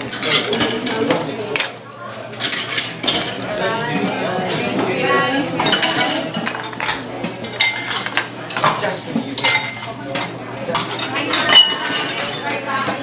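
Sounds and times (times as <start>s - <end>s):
dishes and cutlery clinking: 0.0s - 3.8s, 5.6s - 13.0s.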